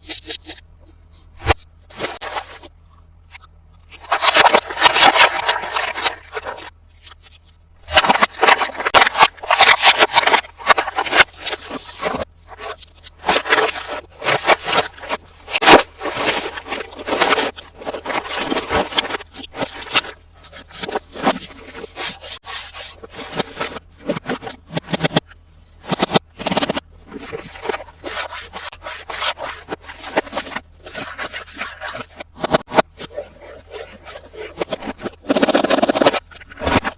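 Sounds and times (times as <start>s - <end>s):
hands handling plastic packaging: 1.4s - 24.8s, 26.8s - 36.9s.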